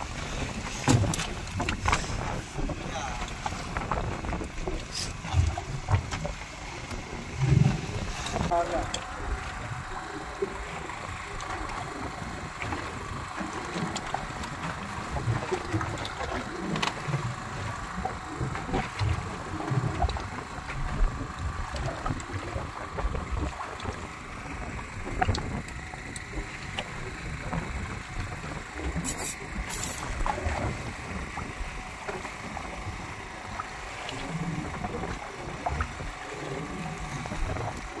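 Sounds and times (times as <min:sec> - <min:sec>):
low rumble: 0:00.0 - 0:38.0
water splashing against boat: 0:00.0 - 0:38.0.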